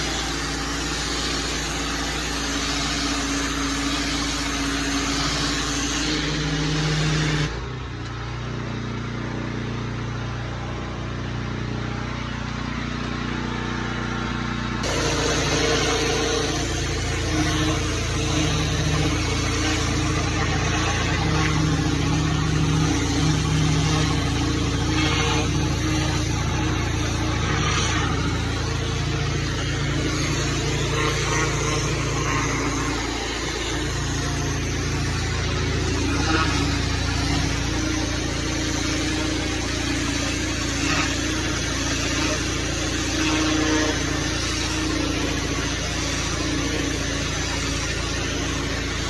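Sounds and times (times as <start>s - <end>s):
rushing hiss of spray: 0.0s - 7.5s, 14.8s - 49.0s
small gasoline engine running: 0.0s - 49.0s.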